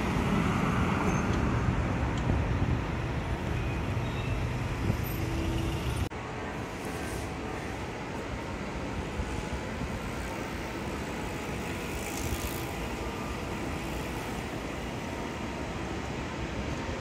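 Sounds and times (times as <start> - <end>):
heavy vehicle engines rumbling: 0.0 - 17.0
street traffic: 0.0 - 17.0.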